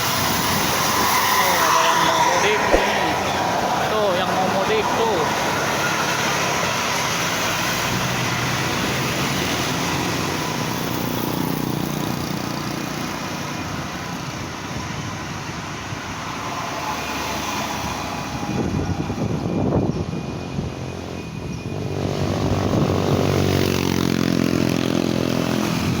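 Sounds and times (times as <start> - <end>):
heavy vehicle engines labouring: 0.0 - 26.0
passing traffic: 0.0 - 26.0.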